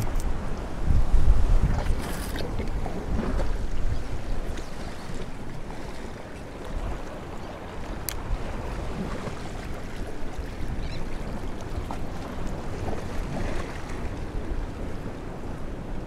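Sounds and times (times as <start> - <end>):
waves lapping against rocks: 0.0 - 15.0
wind buffeting microphone: 0.0 - 16.0.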